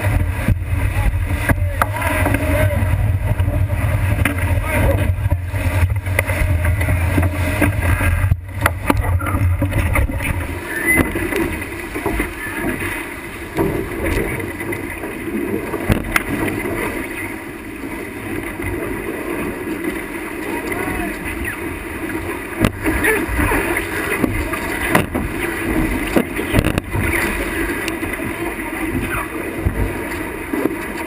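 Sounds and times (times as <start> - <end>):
wind buffeting microphone: 0.0 - 19.6, 20.8 - 30.8
water rushing past boat: 0.0 - 31.0.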